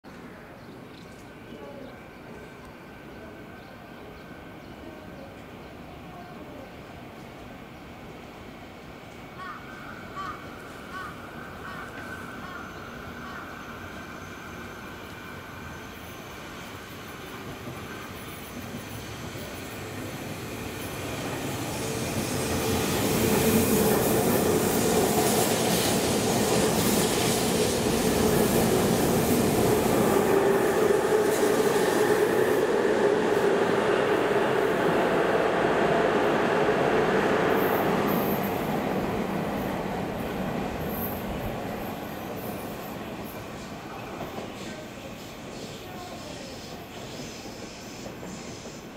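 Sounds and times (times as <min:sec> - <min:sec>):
rushing rail noise: 0:00.1 - 0:48.9
electric train passing: 0:07.0 - 0:48.9.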